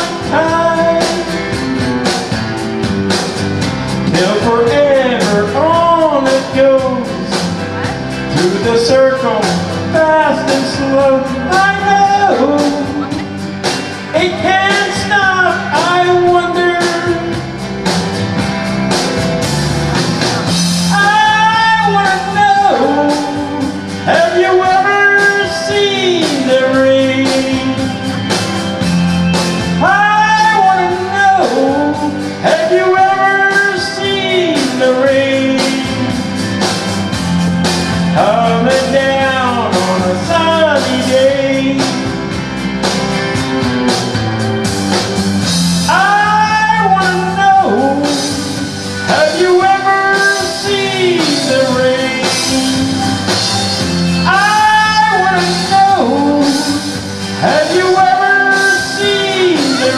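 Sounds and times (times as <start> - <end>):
man singing: 0.0 - 2.1, 3.8 - 18.5, 20.4 - 28.8, 29.5 - 36.4, 37.9 - 43.9, 45.8 - 59.9
rock band playing: 0.0 - 59.9.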